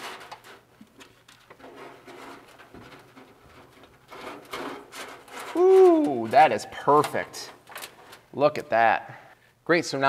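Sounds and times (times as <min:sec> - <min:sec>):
wires rubbing and scraping: 0:00.0 - 0:08.7.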